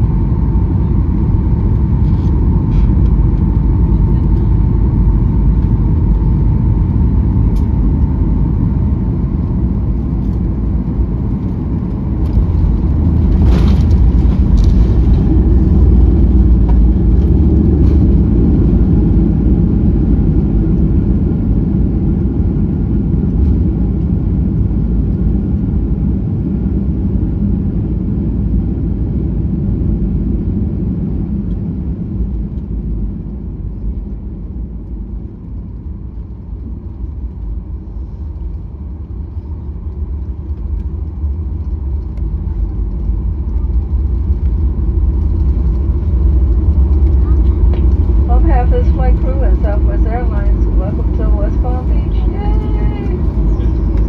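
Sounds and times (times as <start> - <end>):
engine and airflow rumble: 0.0 - 54.0.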